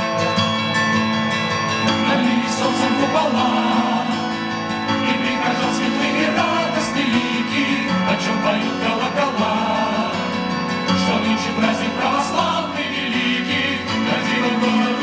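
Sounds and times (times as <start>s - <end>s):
person singing: 1.8s - 15.0s.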